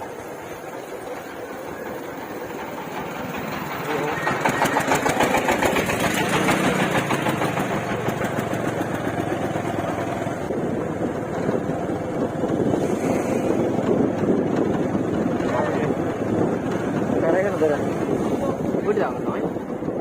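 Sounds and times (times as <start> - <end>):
rushing noise: 0.0 - 20.0
vehicle engine running: 0.0 - 20.0.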